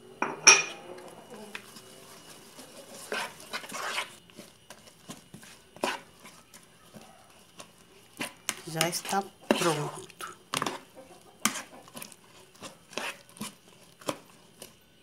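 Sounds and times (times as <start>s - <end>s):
spoon stirring vegetables in bowl: 1.0s - 14.9s.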